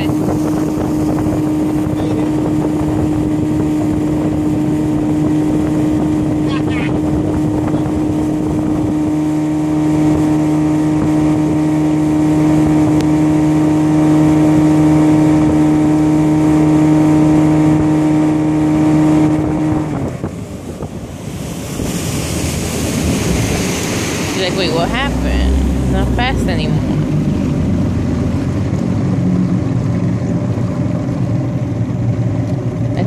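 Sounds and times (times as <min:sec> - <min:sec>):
outboard motor running: 0:00.0 - 0:33.0
water rushing past hull: 0:00.0 - 0:33.0
wind on microphone: 0:00.0 - 0:33.0.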